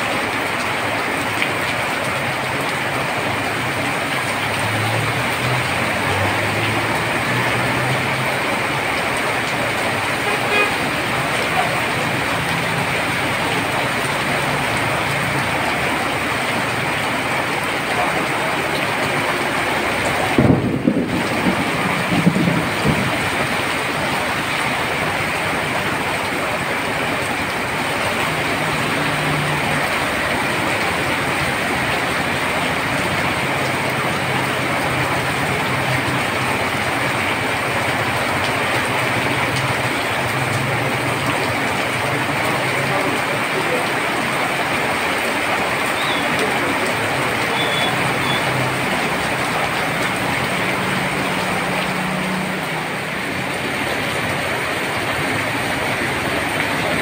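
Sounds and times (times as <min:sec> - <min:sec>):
heavy rain on a road: 0:00.0 - 0:57.0.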